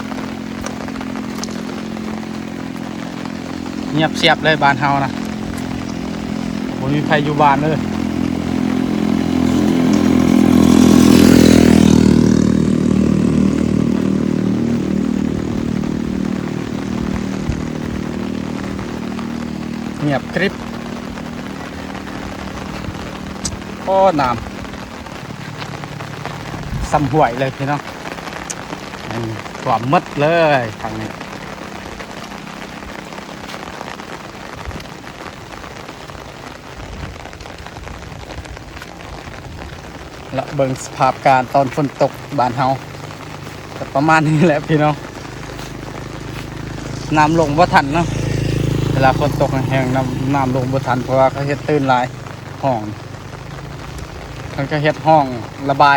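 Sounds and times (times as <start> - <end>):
motorcycle engine running: 0.0 - 55.9
rain falling: 0.0 - 55.9
raindrops ticking on surfaces: 0.0 - 55.9.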